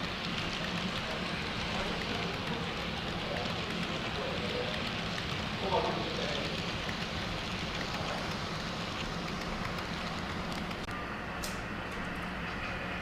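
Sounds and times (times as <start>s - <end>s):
model train rumble and whir: 0.0s - 13.0s.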